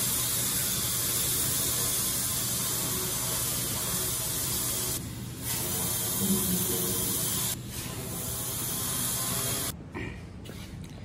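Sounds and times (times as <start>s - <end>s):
cutting torch hissing: 0.0s - 9.7s.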